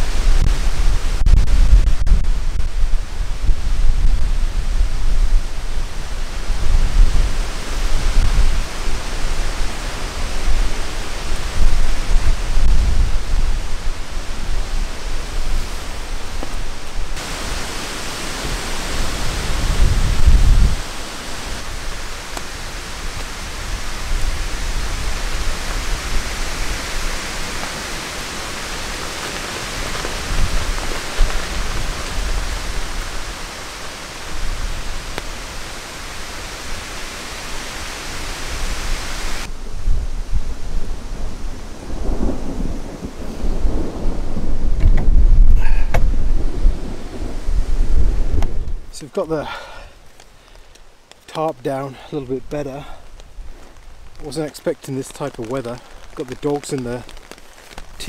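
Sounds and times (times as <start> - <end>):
wind buffeting microphone: 0.0 - 48.9
storm wind rushing through trees: 0.0 - 58.0.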